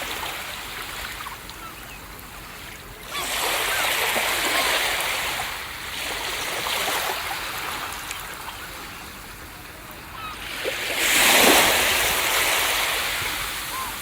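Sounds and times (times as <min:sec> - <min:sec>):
ocean surf washing on beach: 0:00.0 - 0:14.0.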